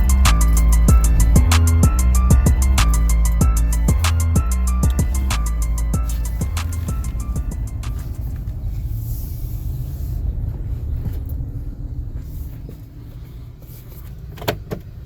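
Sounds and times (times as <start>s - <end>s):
car cabin rumble while driving: 0.0s - 15.0s.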